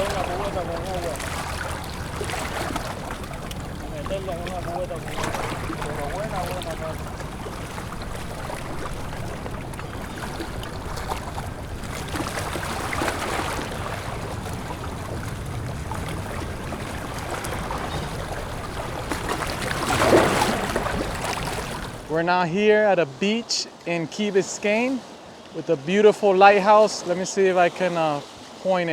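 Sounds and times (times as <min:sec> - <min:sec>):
seawater lapping on shore: 0:00.0 - 0:28.9.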